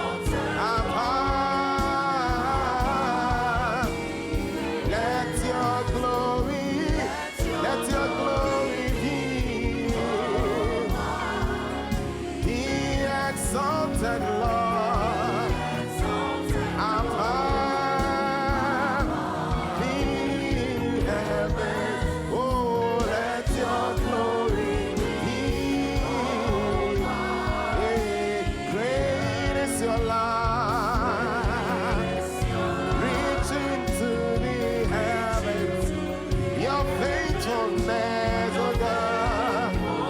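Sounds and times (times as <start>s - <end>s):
band playing steady beat: 0.0s - 40.0s
gospel singers: 0.0s - 40.0s.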